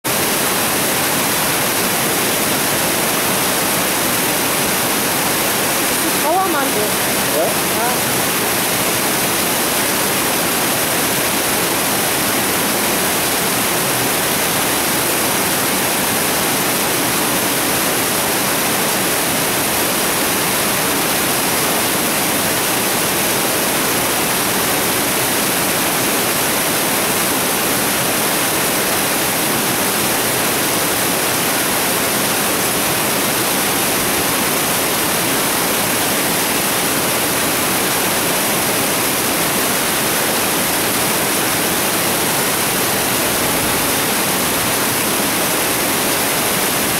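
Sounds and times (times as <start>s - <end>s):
mountain stream rushing: 0.1s - 46.9s.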